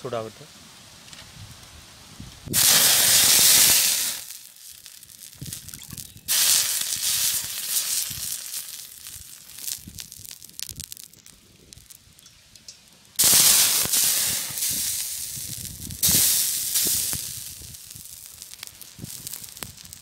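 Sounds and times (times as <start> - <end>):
wood fire crackling: 0.5 - 20.0
water hissing on hot griddle: 1.7 - 12.3, 13.2 - 20.0.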